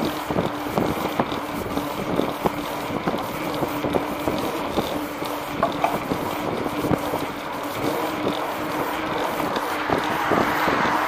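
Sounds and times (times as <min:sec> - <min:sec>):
bicycle knocks and rattles: 0:00.0 - 0:10.5
bicycle tyre rolling on concrete: 0:00.0 - 0:11.0
wind buffeting microphone: 0:00.0 - 0:11.0.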